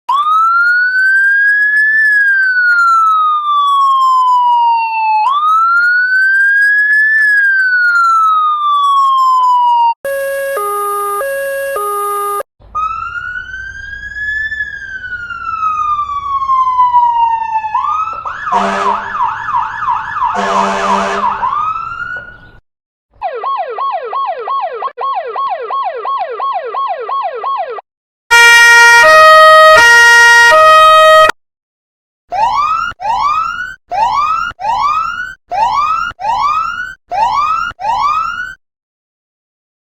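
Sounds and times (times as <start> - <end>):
emergency vehicle sirens: 0.1 - 22.6, 23.2 - 31.4, 32.3 - 38.6.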